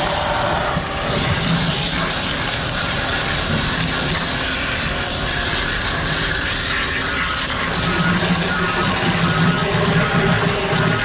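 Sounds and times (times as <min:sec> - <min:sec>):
high-pressure water spray hissing: 0:00.0 - 0:11.0.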